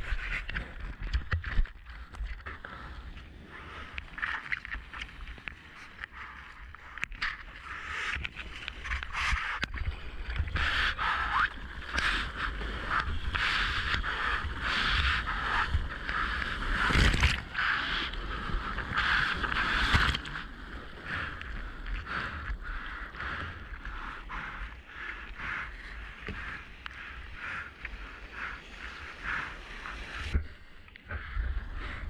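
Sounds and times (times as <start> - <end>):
water splashing around a kayak: 0.0 - 32.0.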